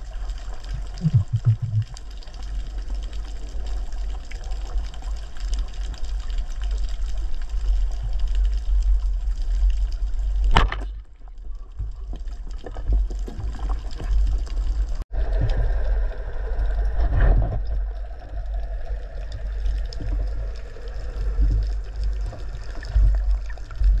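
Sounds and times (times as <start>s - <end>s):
crackles: 0.0s - 24.0s
underwater rumble: 0.0s - 24.0s.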